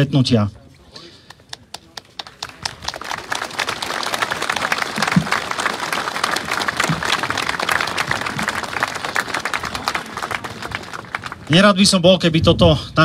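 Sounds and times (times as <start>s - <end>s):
crowd clapping: 1.2s - 12.0s.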